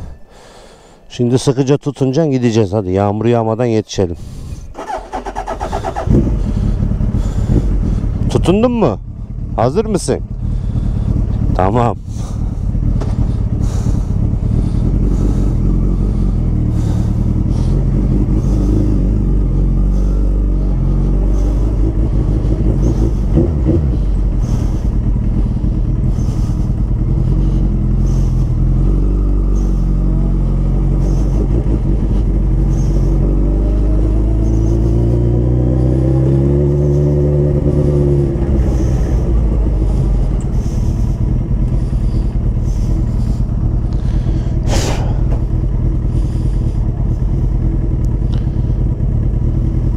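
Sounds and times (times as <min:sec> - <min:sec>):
motorcycle engine running: 0:04.3 - 0:49.9.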